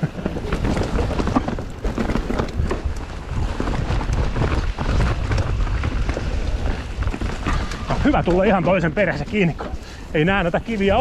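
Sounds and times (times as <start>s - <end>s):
bike rattling and knocking: 0.0s - 11.0s
bike tyres crunching over rocks: 0.0s - 11.0s
wind rumble on microphone: 0.0s - 11.0s.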